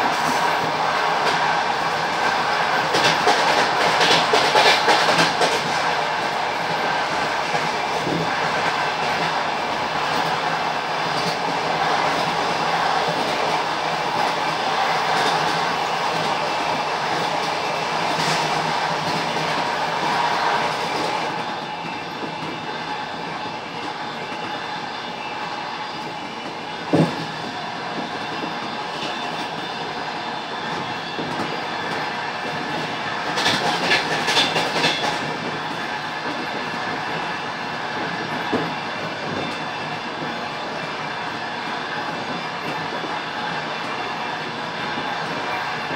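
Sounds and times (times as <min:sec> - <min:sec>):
train wheels rolling and clattering: 0:00.0 - 0:45.9.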